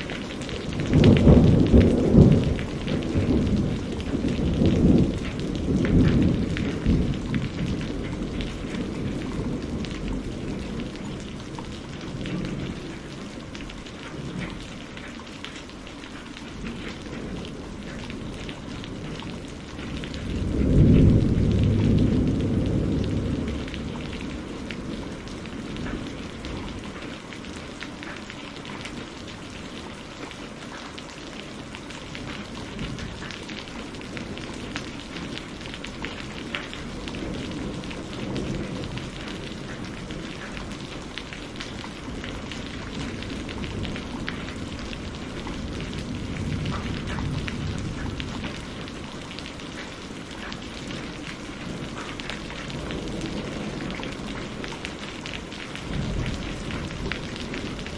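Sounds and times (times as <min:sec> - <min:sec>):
low thunder rumble: 0:00.0 - 0:15.0, 0:16.5 - 0:27.2, 0:31.6 - 0:57.9
steady rainfall: 0:00.0 - 0:57.9.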